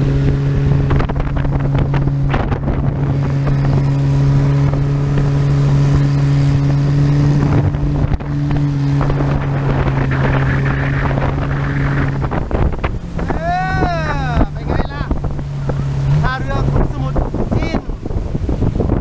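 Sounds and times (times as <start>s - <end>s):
motorboat engine running: 0.0s - 19.0s
water rushing past hull: 0.0s - 19.0s
wind buffeting microphone: 0.0s - 19.0s.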